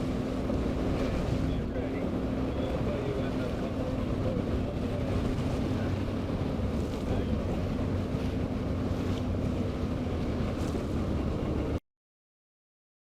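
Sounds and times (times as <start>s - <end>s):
low wind-like rumble: 0.0s - 11.8s.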